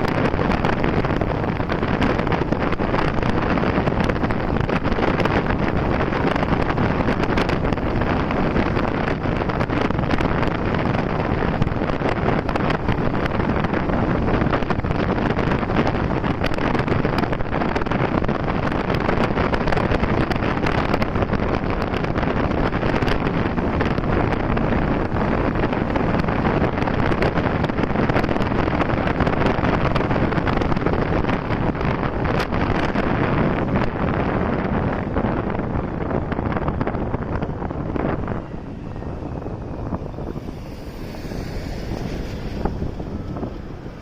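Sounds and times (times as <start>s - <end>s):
motorcycle road noise: 0.0s - 44.0s
wind rushing over microphone: 0.0s - 44.0s.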